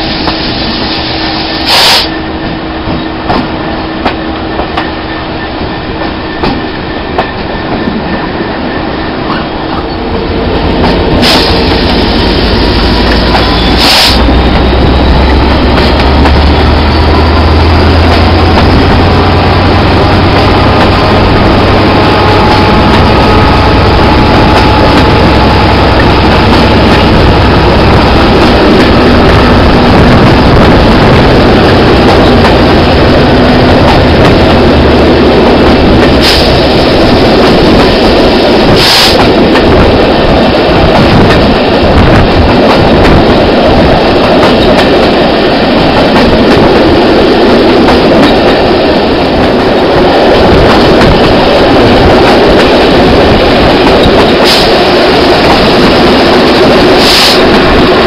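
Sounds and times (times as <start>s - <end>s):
rushing air: 0.0s - 2.8s, 3.4s - 58.0s
diesel locomotive engine working: 0.0s - 58.0s
train wheels on rails: 0.0s - 58.0s.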